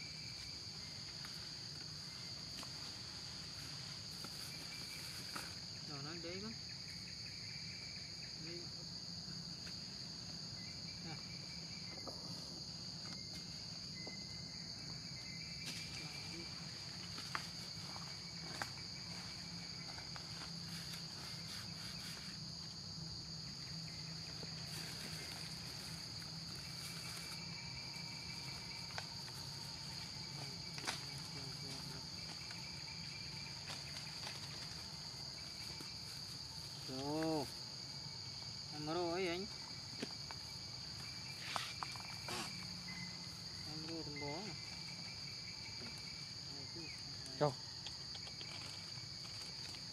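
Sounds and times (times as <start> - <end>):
insects droning: 0.0 - 49.9.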